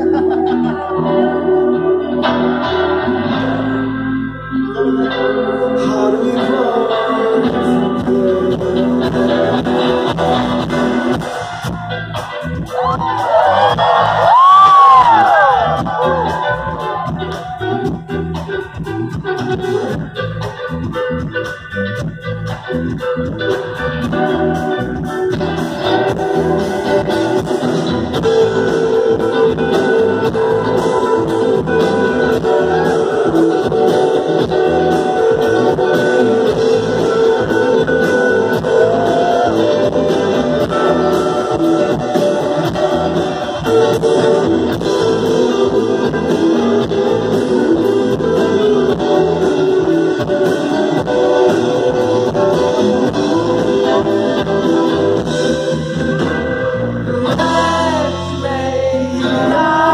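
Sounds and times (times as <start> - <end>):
electric guitar: 0.0 - 59.9
live band music: 0.0 - 59.9.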